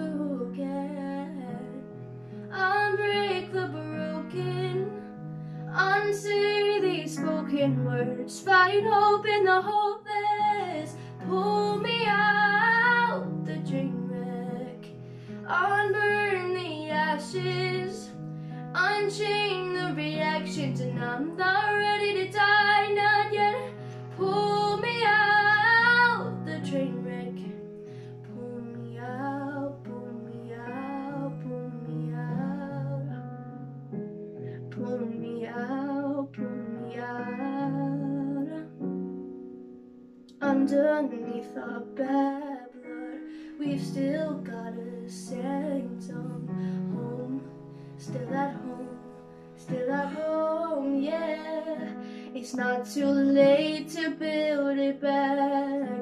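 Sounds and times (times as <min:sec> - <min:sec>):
girl singing a pop ballad: 0:00.0 - 0:33.6, 0:34.2 - 0:39.0, 0:40.2 - 0:56.0.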